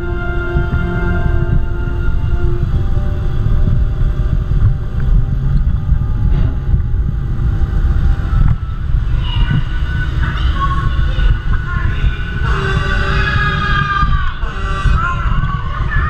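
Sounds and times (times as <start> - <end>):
faint music: 0.0 - 16.0
wind buffeting microphone: 0.0 - 16.0
ride car rolling on track: 2.6 - 16.0.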